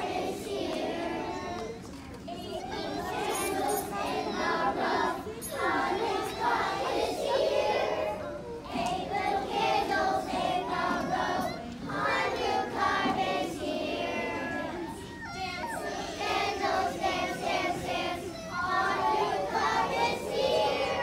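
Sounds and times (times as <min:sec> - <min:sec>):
children's choir singing: 0:00.0 - 0:21.0.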